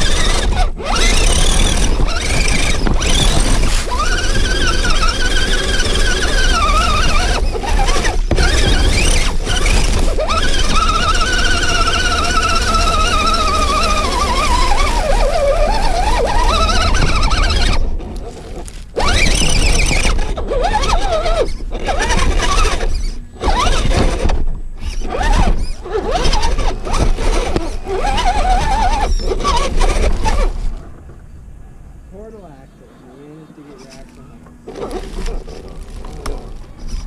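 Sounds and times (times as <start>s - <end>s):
electric motor whining: 0.0s - 37.0s.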